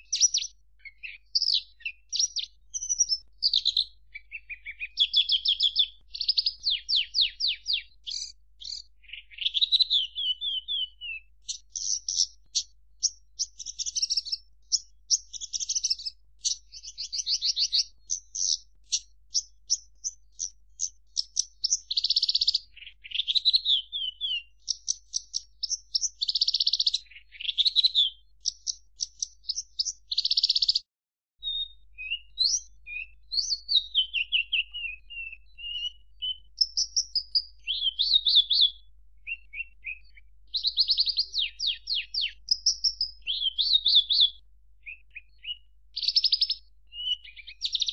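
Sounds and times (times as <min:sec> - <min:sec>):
lark singing trills and chips: 0:00.0 - 0:30.8, 0:31.4 - 0:47.9.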